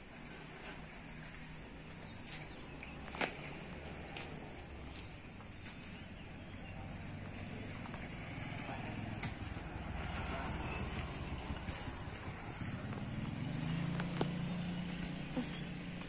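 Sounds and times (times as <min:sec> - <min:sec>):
road traffic rumble: 0:00.0 - 0:16.0
motorcycle passing: 0:02.6 - 0:16.0.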